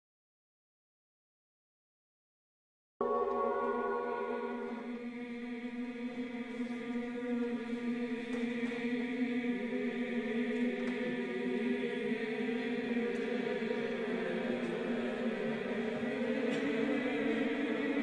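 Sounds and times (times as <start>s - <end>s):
choir-like chanting drone: 3.0s - 18.0s.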